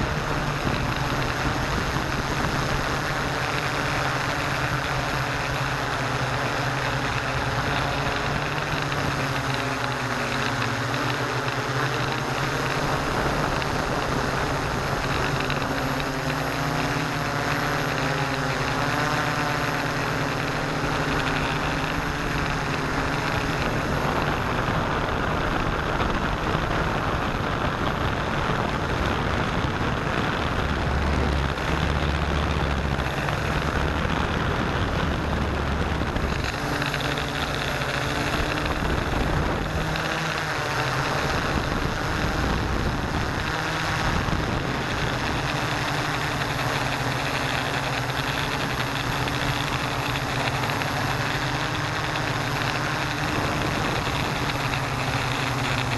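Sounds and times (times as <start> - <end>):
broad rushing noise: 0.0 - 55.9
drone motors and propellers droning: 0.0 - 55.9.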